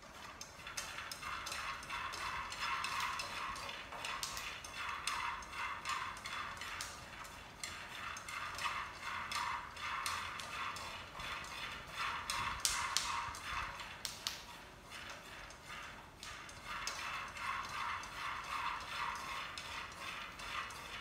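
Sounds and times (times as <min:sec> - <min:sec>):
nuts rattling in frying pan: 0:00.3 - 0:14.5, 0:16.4 - 0:21.0.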